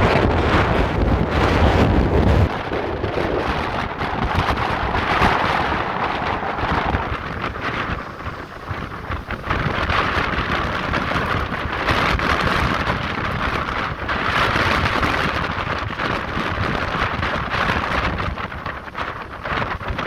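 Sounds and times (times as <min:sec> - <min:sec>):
surf breaking against rocks: 0:00.0 - 0:16.6.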